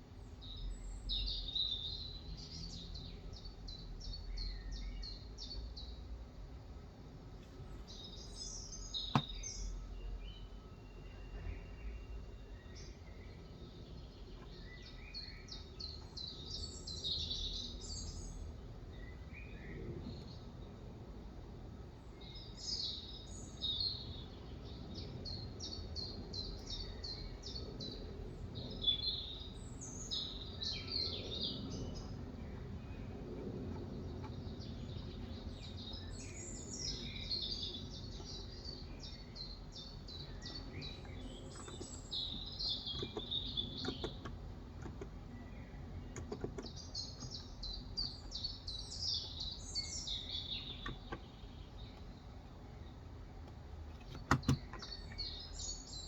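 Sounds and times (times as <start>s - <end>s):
low background rumble: 0.0s - 56.0s
birds chirping and trilling: 0.1s - 6.0s, 7.6s - 20.8s, 22.0s - 56.0s.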